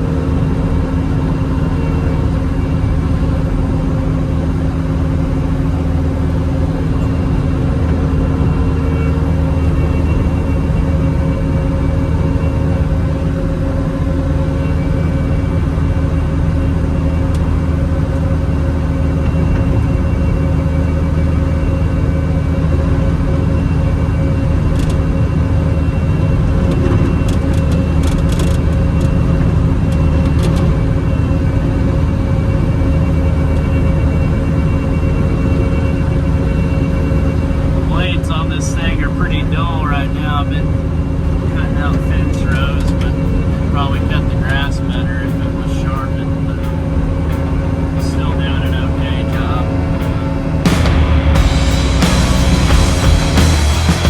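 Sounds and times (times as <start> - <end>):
diesel engine droning under load: 0.0 - 54.0.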